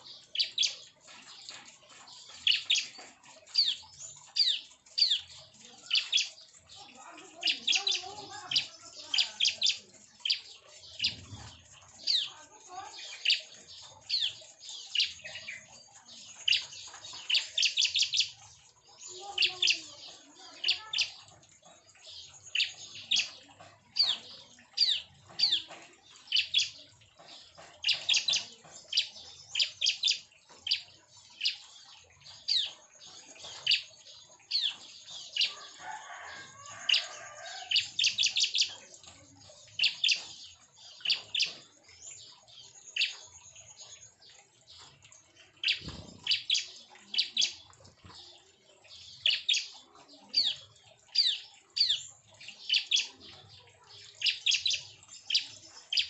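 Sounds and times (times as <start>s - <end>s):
bird high chirps: 0.0s - 56.0s.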